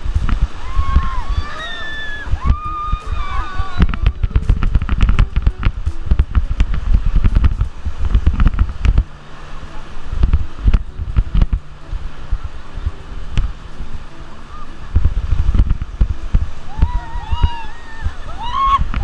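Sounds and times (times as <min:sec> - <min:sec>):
water splashing: 0:00.0 - 0:19.0
wind buffeting microphone: 0:00.0 - 0:19.0.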